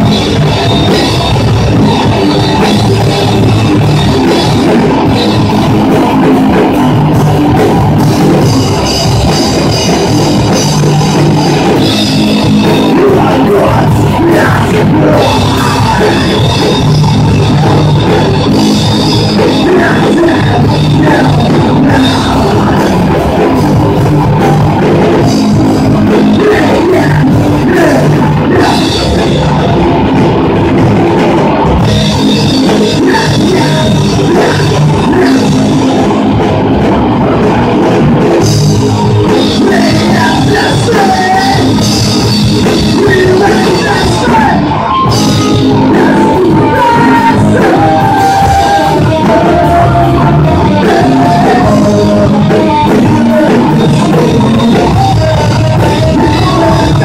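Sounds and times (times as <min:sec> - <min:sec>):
heavy rock band playing: 0:00.0 - 0:57.0.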